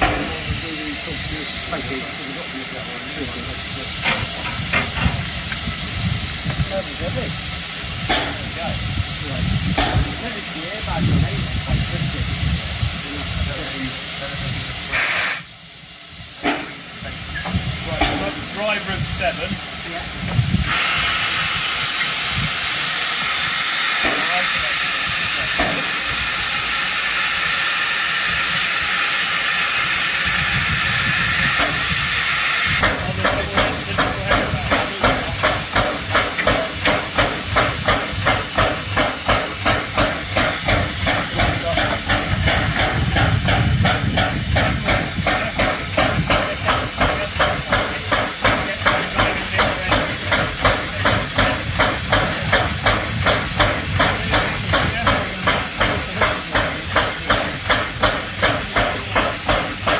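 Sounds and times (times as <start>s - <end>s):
pulsing steam beat: 0.0s - 59.9s
steam locomotive hissing: 0.0s - 59.9s.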